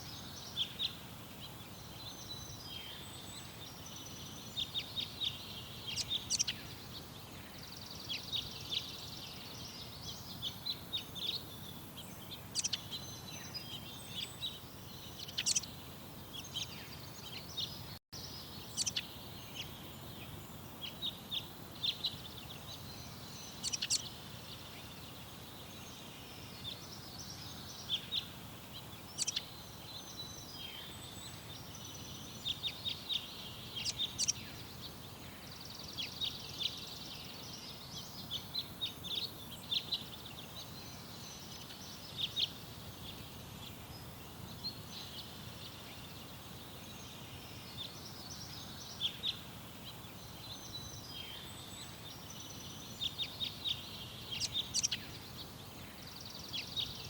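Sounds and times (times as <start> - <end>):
outdoor background noise: 0.0 - 57.0
songbirds chirping and singing: 0.0 - 57.0.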